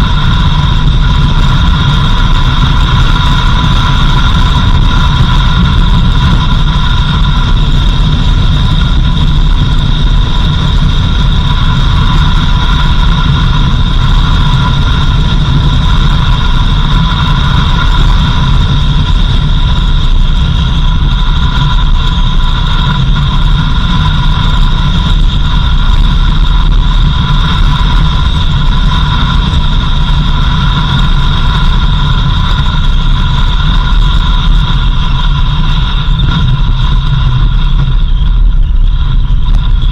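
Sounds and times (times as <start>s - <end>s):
high whine: 0.0s - 39.9s
off-road vehicle driving on dirt: 0.0s - 39.9s.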